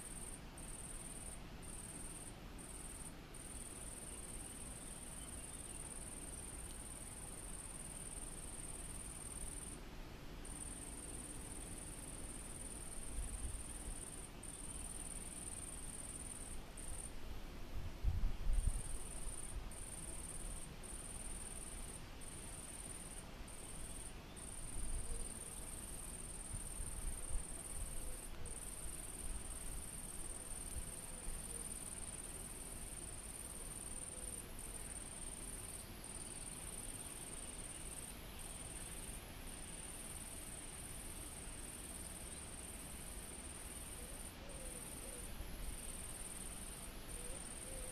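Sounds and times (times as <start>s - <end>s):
insects trilling: 0.0s - 9.8s, 10.4s - 17.2s, 18.6s - 47.9s.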